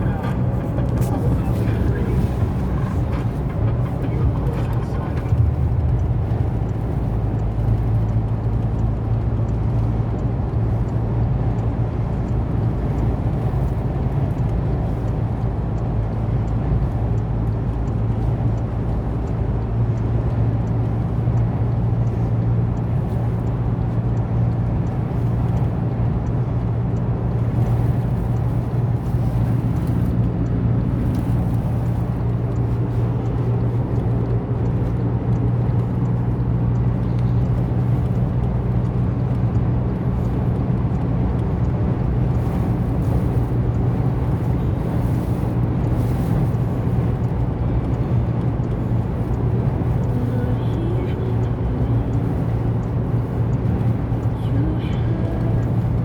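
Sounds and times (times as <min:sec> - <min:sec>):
car engine and road drone: 0:00.0 - 0:56.0.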